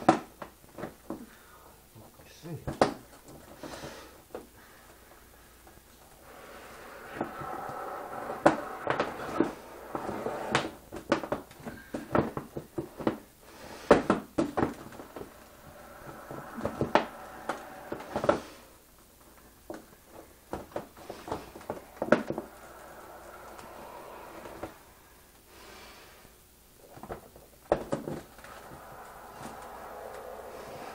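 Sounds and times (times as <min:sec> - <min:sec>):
faint hum: 0:00.6 - 0:30.9.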